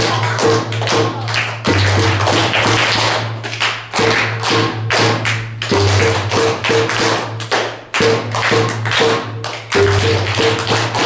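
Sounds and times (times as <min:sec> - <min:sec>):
bass marimba playing: 0:00.0 - 0:11.0
children clapping along: 0:00.0 - 0:11.0.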